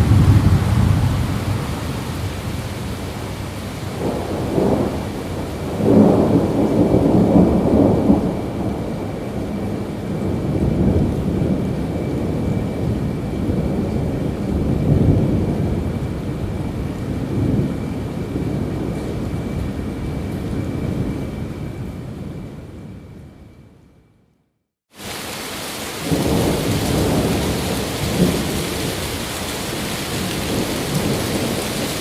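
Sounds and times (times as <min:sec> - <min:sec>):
steady rain: 0:00.0 - 0:23.0, 0:24.9 - 0:32.0
thunder rumbling: 0:00.0 - 0:23.8, 0:25.0 - 0:32.0.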